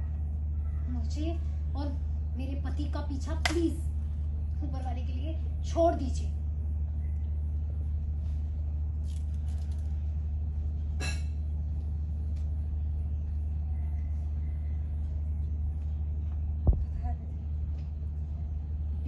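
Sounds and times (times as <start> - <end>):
low rumbling hum: 0.0 - 19.0.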